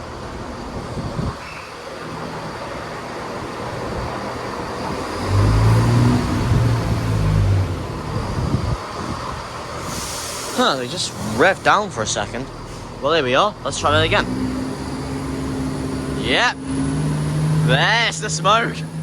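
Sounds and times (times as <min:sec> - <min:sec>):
train diesel engines droning: 0:00.0 - 0:19.0.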